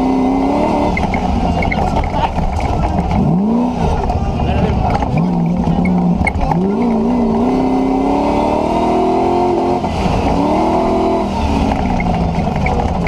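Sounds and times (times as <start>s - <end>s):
engine accelerating hard: 0.0s - 13.0s.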